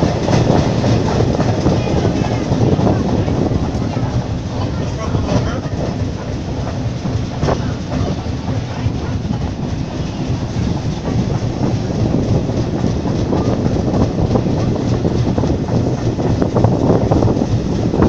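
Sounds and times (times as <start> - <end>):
rolling rumble of train coaches: 0.0 - 18.0
wheels clacking over rail joints: 0.0 - 18.0.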